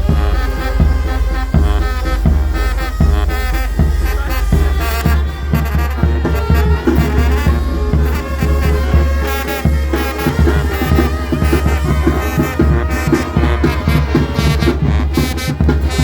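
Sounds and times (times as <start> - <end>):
heavy steady bass: 0.0 - 16.0
loud music with brass: 0.0 - 16.0.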